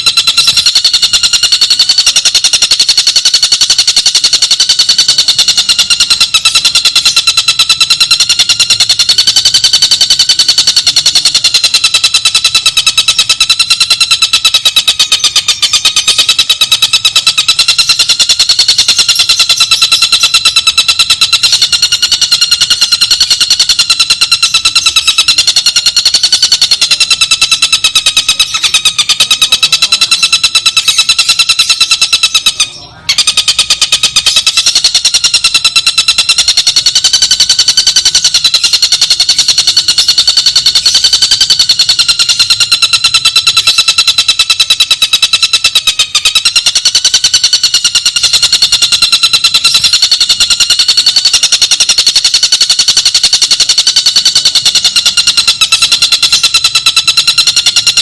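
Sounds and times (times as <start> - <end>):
bird pulsed trill: 0.0 - 58.0.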